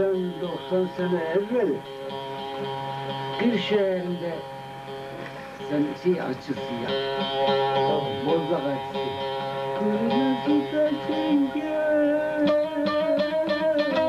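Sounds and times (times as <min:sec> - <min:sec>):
plucked lute folk melody: 0:00.0 - 0:14.0.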